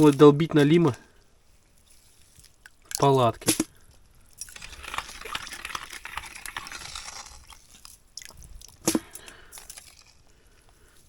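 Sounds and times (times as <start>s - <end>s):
rustling handling noise: 0.0s - 11.0s.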